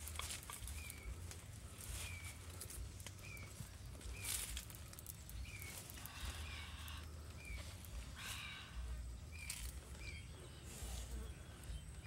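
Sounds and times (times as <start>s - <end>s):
rustling leaves and bamboo: 0.0s - 12.0s
bird chirping: 0.1s - 12.0s.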